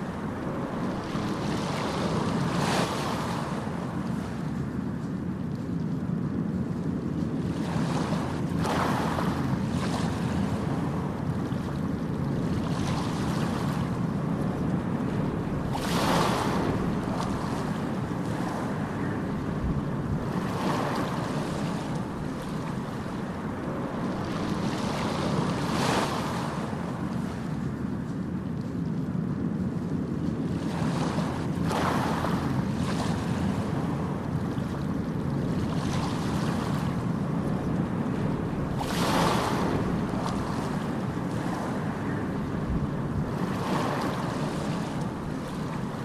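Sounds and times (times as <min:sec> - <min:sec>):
low rumble of surf: 0:00.0 - 0:46.0
waves breaking: 0:00.0 - 0:46.0.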